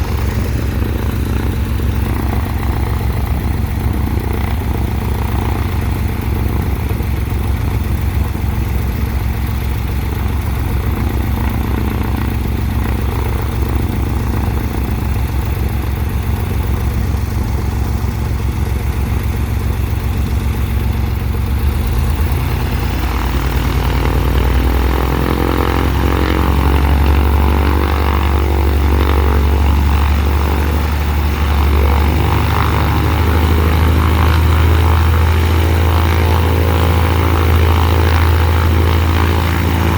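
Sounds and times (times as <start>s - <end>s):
aircraft piston engine and propeller: 0.0s - 39.9s.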